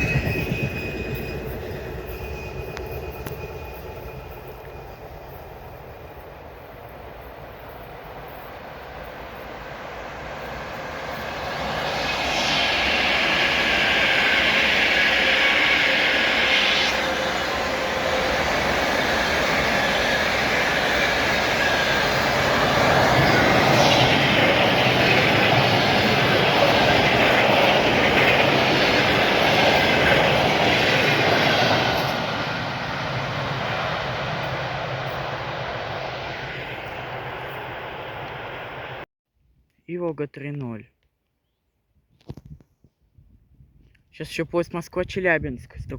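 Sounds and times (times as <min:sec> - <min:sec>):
train passing wheels on rails: 0:00.0 - 0:39.1.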